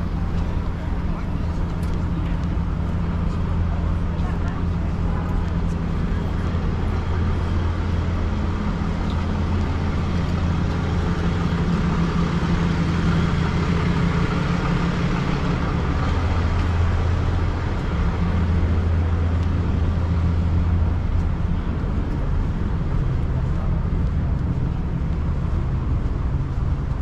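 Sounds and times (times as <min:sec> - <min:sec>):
car engine idling: 0:00.0 - 0:27.0
street traffic: 0:00.0 - 0:27.0.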